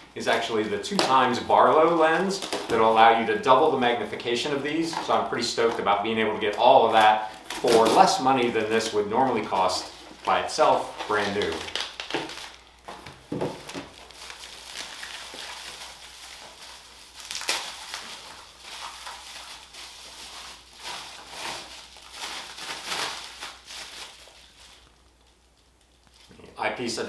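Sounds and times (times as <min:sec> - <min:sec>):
packaging rustling and crinkling: 0:00.2 - 0:26.5.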